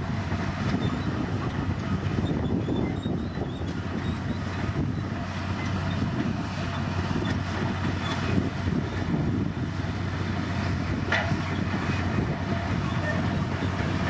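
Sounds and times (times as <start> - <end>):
bulldozer diesel engine rumbling: 0.0 - 14.0.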